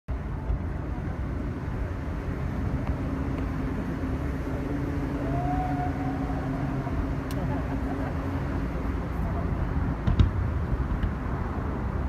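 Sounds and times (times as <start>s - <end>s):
engine hum: 0.1s - 12.0s
road traffic rumble: 0.1s - 12.0s.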